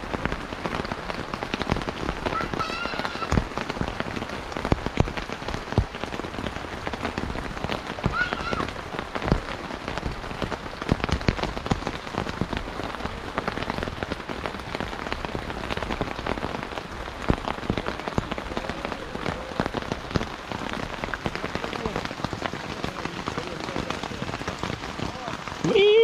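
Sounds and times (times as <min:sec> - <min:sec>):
rain on tent fabric: 0:00.0 - 0:26.0.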